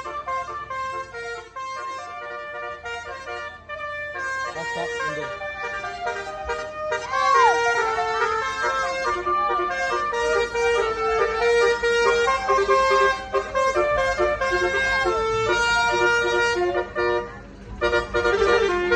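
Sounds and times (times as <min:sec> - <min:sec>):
low rumble of bus: 0:00.0 - 0:18.9
multi-tone bus horn playing a tune: 0:00.0 - 0:18.9.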